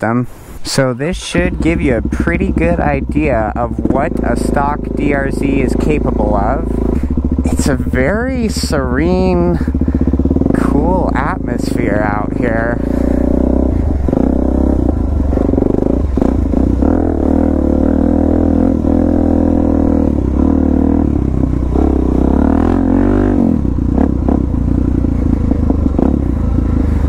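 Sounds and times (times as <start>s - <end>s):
motorcycle engine revving: 1.1s - 27.0s.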